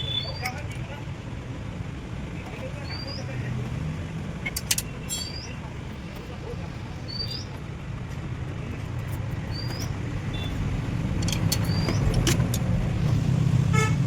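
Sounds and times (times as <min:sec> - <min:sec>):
car engine running: 0:01.2 - 0:14.0.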